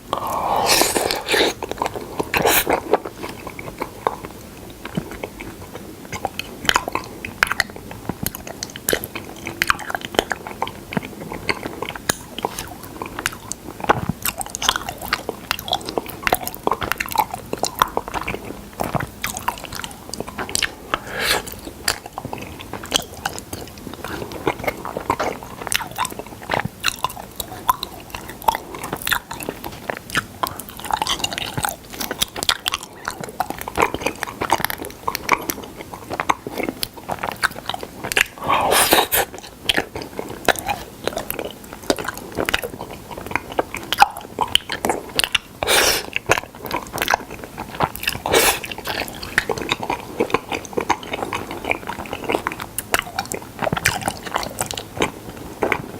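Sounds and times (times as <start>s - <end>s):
person biting and chewing: 0.0s - 7.7s, 8.4s - 55.9s.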